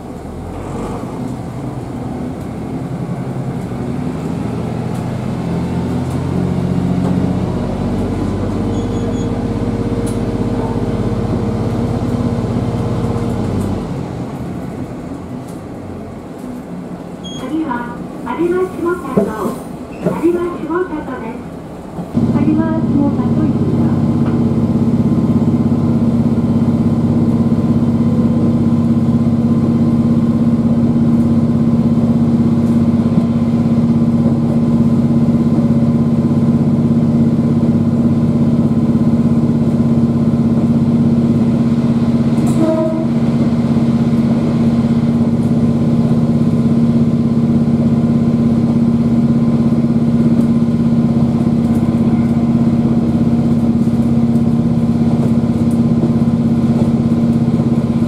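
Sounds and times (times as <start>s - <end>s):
railcar engine drone: 0.0s - 58.0s.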